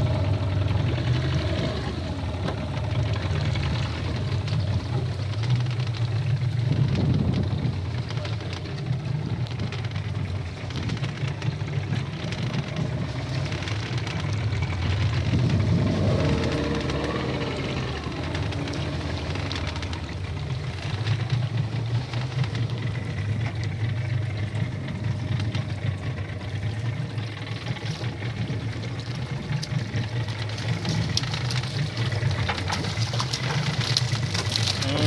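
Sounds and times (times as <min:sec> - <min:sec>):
boat engine idling: 0:00.0 - 0:35.0
water splashing: 0:00.0 - 0:35.0.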